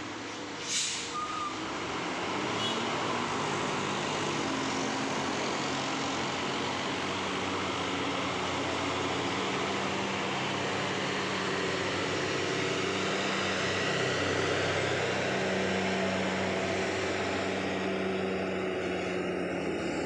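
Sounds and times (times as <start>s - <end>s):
diesel bus engine running: 0.0s - 20.0s
road noise hiss: 0.0s - 20.0s.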